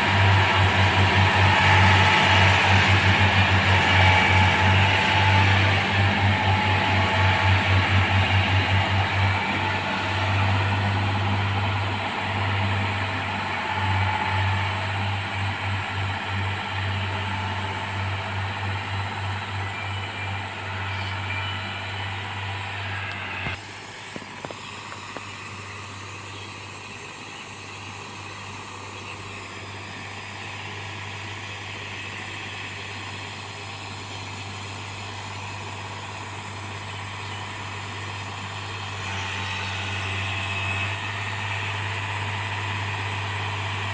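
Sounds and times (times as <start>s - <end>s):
heavy diesel engine throbbing: 0.0s - 43.9s.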